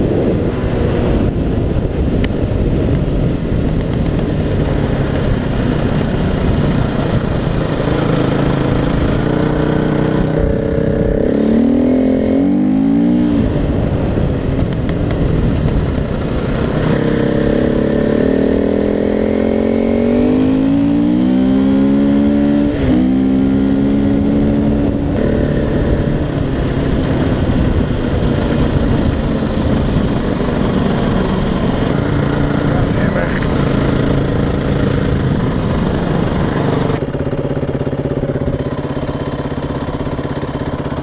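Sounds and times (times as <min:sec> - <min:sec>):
wind rushing: 0:00.0 - 0:38.9
dirt bike engine accelerating: 0:00.0 - 0:41.0.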